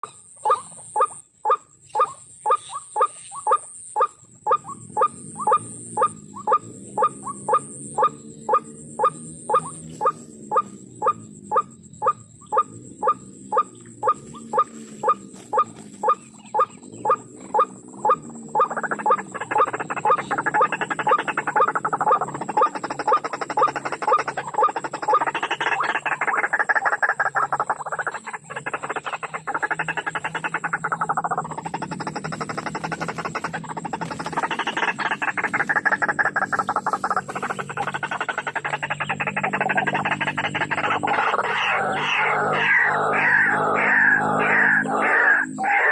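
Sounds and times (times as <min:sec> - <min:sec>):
bird chattering chorus: 0:00.0 - 0:45.9
waterhen nasal calls: 0:00.4 - 0:45.9.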